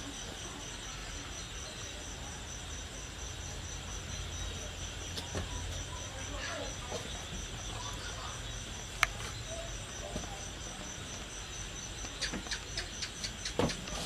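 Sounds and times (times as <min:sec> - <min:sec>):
high insect chirping: 0:00.0 - 0:14.0.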